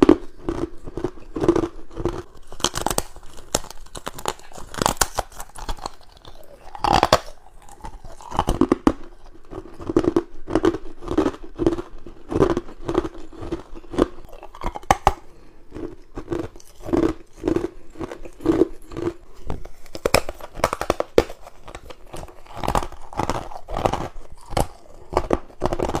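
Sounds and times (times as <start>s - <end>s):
ice cubes crunching as chewed: 0.0s - 26.0s.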